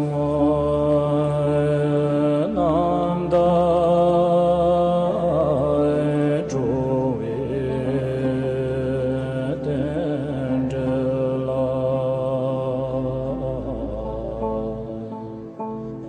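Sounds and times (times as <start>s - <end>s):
mantra chanted in held notes: 0.0s - 15.3s.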